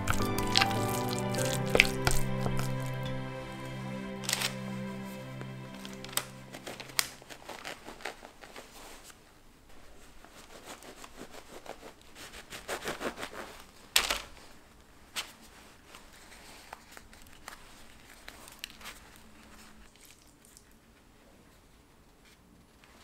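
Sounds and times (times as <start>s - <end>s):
parchment paper crinkling: 0.0s - 3.1s, 4.2s - 4.8s, 5.6s - 21.0s.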